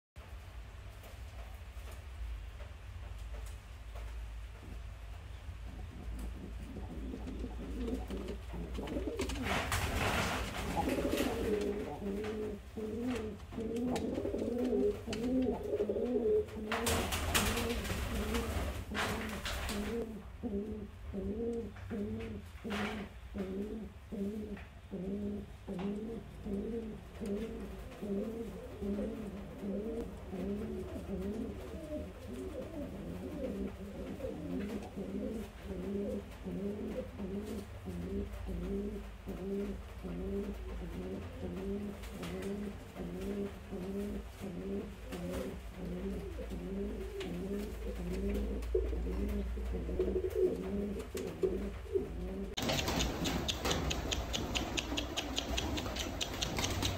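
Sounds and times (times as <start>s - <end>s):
pigeons cooing: 5.7s - 56.9s.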